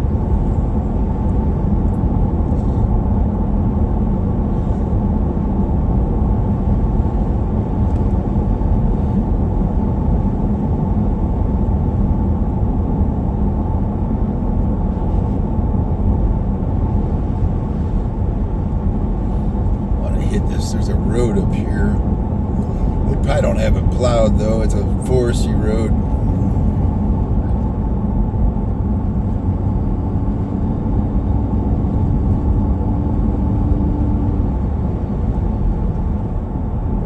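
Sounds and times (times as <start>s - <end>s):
road and engine noise inside vehicle: 0.0s - 37.0s.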